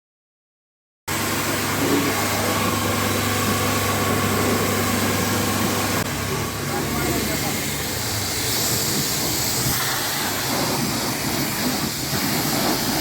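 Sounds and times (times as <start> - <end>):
pressure washer running: 1.1 - 13.0.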